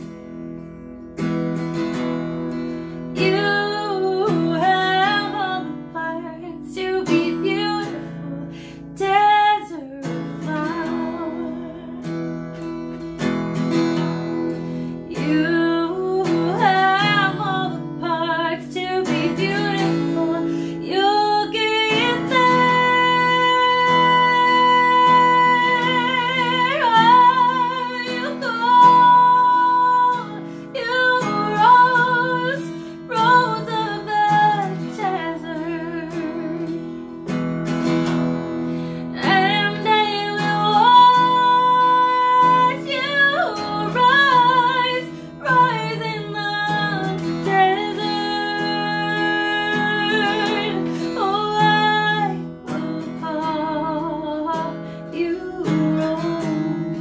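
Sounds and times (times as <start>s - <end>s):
acoustic guitar chords: 0.0s - 57.0s
woman singing: 2.5s - 13.3s, 14.1s - 38.0s, 38.8s - 57.0s.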